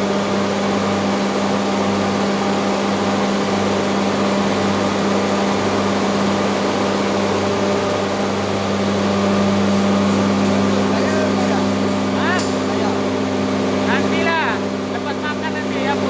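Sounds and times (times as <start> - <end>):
machinery drone: 0.0 - 16.0.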